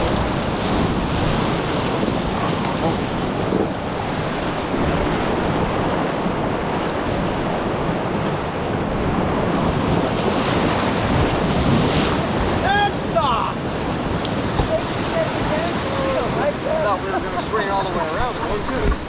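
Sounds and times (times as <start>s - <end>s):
wind buffeting microphone: 0.0s - 12.6s, 13.6s - 19.0s
river rushing and splashing: 0.0s - 19.0s.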